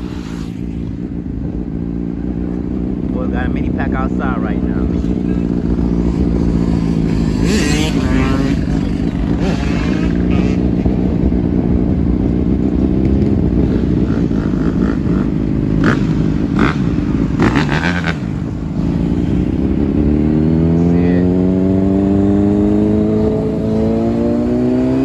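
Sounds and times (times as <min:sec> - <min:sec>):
engines revving: 0:00.0 - 0:25.0.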